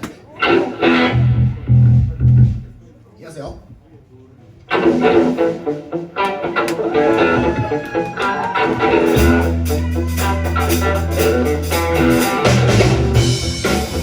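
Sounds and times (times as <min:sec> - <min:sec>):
electric guitar riff: 0:00.4 - 0:02.8, 0:04.7 - 0:14.0
bass guitar: 0:00.4 - 0:02.9, 0:04.7 - 0:14.0.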